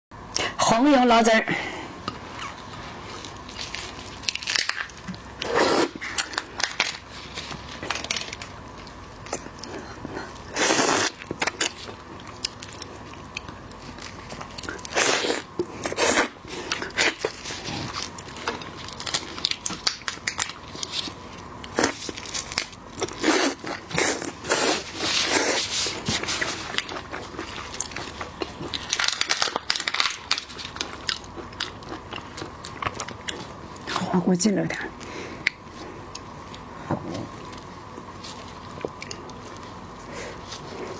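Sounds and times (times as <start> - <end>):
crunching and chewing: 2.0 - 34.1, 34.9 - 40.9.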